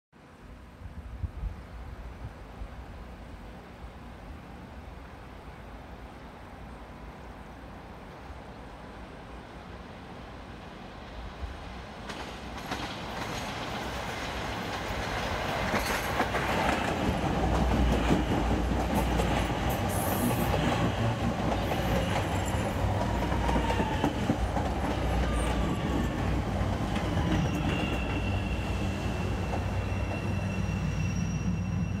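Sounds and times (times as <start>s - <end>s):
train passing: 0.3s - 32.0s.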